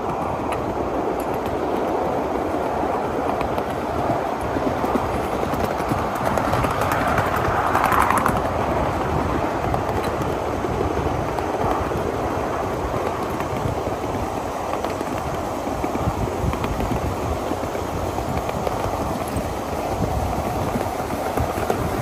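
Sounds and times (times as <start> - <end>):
train wheels rattling on rail: 0.0 - 22.0.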